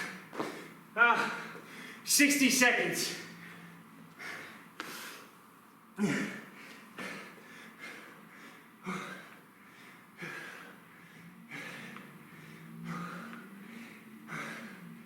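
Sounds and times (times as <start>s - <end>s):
man breathing hard: 0.0s - 2.1s, 3.0s - 5.4s, 6.0s - 15.0s.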